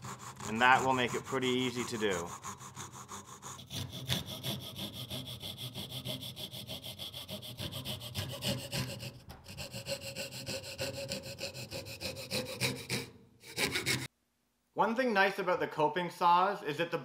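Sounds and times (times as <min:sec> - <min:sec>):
saw cutting wooden board: 0:00.0 - 0:14.1.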